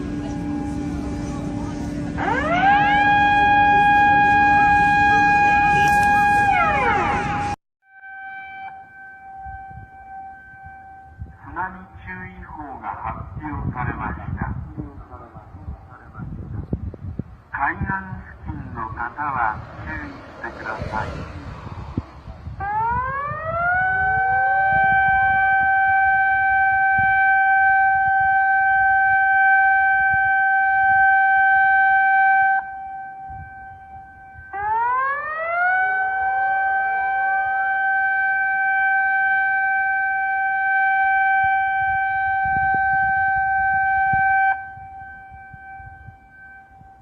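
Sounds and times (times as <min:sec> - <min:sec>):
warning siren wailing: 0:00.0 - 0:47.0.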